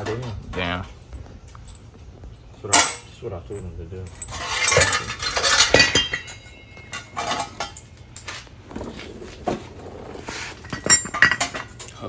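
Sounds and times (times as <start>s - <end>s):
metal tools clinking: 0.0s - 12.0s.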